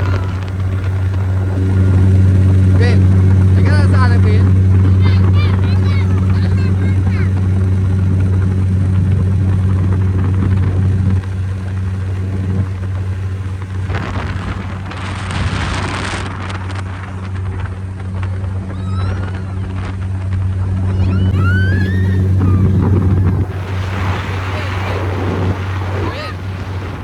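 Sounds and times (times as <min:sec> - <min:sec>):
motorboat engine droning: 0:00.0 - 0:27.0.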